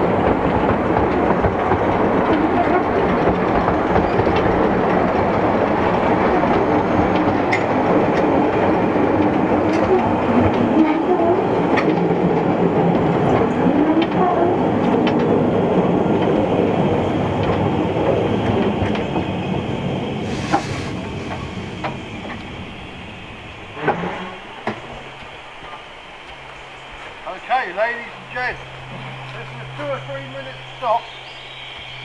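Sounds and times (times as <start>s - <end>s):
train wheels rumbling: 0.0s - 32.0s.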